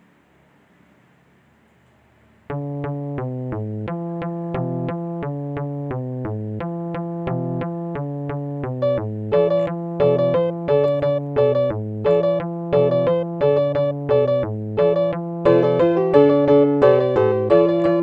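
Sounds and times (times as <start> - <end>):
electronic keyboard dance music: 2.5 - 18.0.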